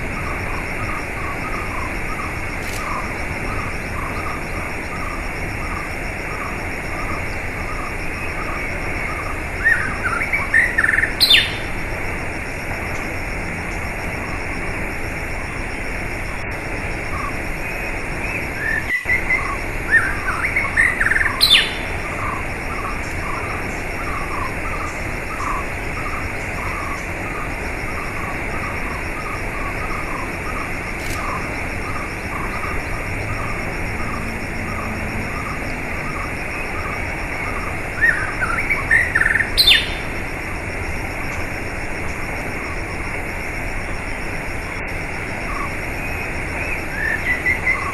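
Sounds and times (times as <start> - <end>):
small birds chirping: 0.0 - 11.9, 15.4 - 43.1, 43.9 - 47.9.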